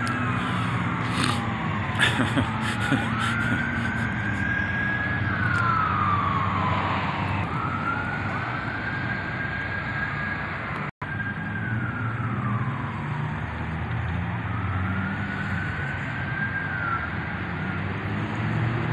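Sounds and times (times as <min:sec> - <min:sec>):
siren wailing: 0:00.0 - 0:18.9.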